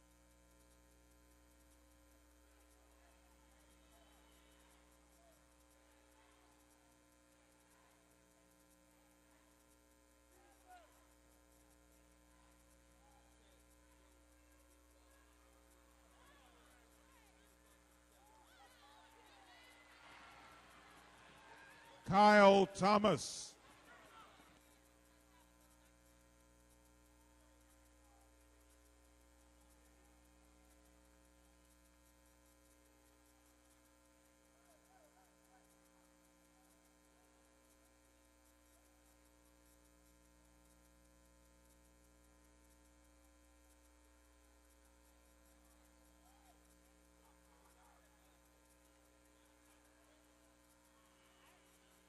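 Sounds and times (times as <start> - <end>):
faint electrical hum: 0.0 - 52.0.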